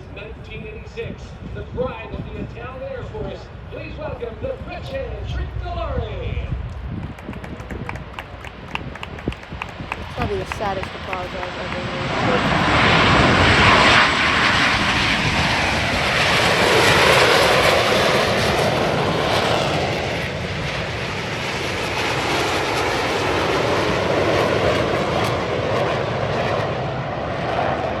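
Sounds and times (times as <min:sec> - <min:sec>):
jets flying overhead: 0:00.0 - 0:28.0.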